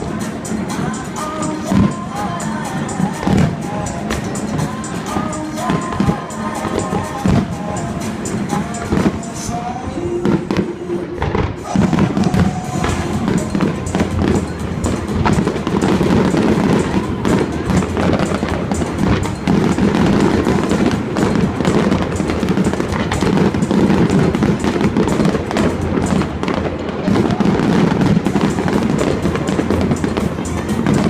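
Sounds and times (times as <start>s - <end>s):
fireworks bangs and crackles: 0.0s - 31.0s
music over loudspeakers: 0.0s - 31.0s.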